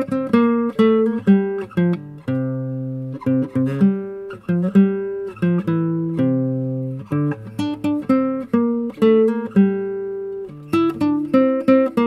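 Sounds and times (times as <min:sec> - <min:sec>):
acoustic guitar picking melody: 0:00.0 - 0:12.0.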